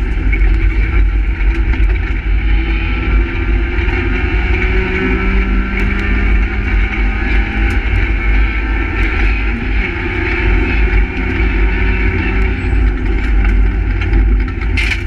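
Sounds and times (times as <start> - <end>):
rally car engine running hard: 0.0 - 15.0
road noise: 0.0 - 15.0.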